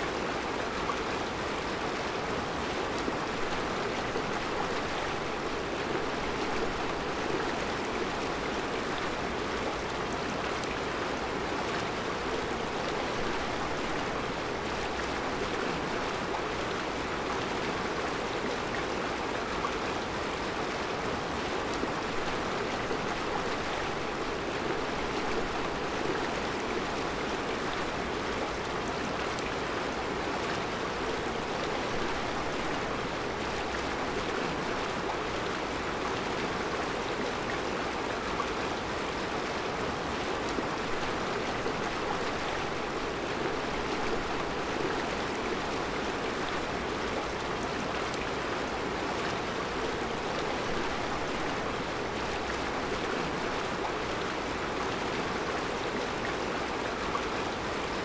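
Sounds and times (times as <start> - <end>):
river flowing over rocks: 0.0 - 58.0.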